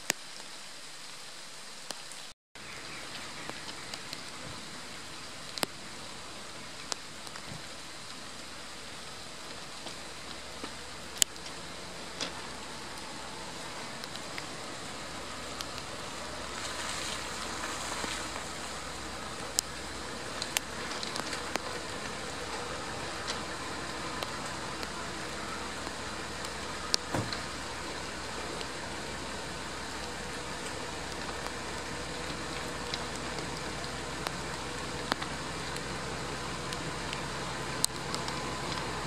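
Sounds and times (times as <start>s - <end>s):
rain hiss: 0.0s - 39.0s
diesel locomotive engine rumble: 2.6s - 39.0s
water drips clicking: 2.7s - 39.0s.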